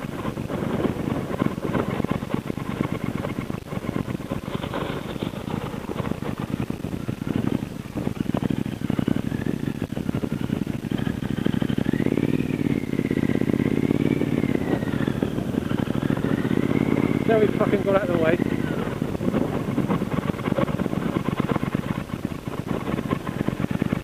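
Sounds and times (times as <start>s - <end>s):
motorcycle engine running slowly: 0.0s - 24.0s.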